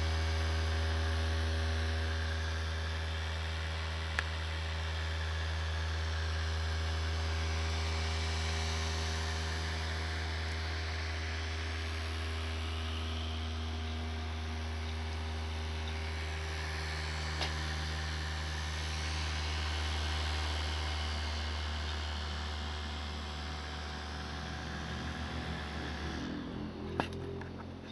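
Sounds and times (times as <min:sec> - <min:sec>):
cooling fan low hum: 0:00.0 - 0:27.9.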